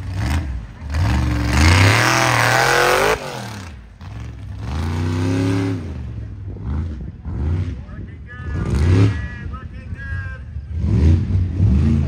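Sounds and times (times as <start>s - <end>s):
truck engine revving: 0.0s - 7.8s, 8.5s - 9.3s, 10.6s - 12.0s.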